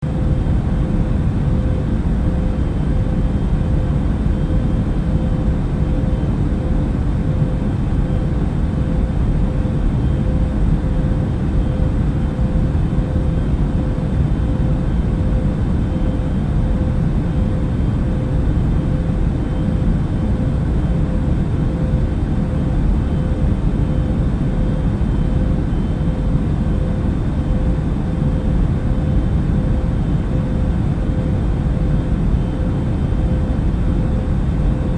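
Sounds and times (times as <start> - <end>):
aircraft engine and airflow noise: 0.0 - 34.9.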